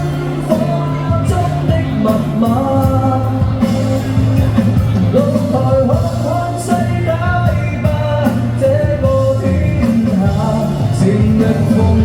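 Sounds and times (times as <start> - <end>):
pop song with band: 0.0 - 12.0.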